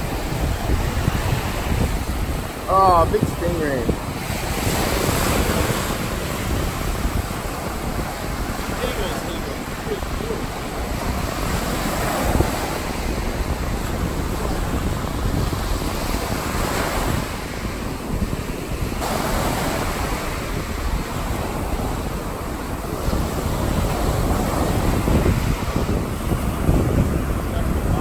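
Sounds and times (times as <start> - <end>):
surf breaking on sand: 0.0 - 28.0
wind buffeting microphone: 0.0 - 28.0.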